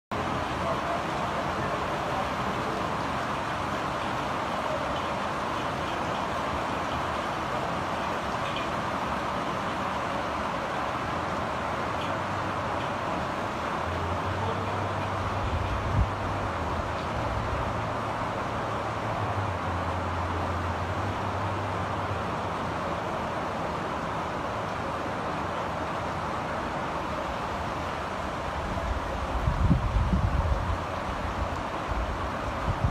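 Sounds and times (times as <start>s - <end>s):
rain falling: 0.1s - 32.9s.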